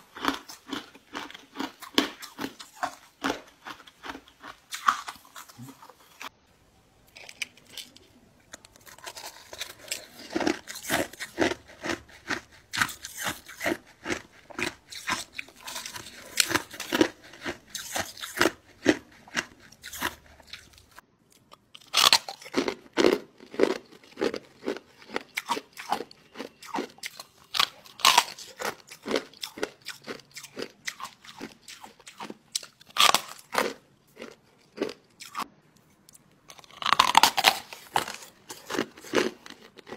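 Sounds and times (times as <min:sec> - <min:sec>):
ice being chewed: 0:00.0 - 0:06.3, 0:07.1 - 0:35.5, 0:36.5 - 0:39.9.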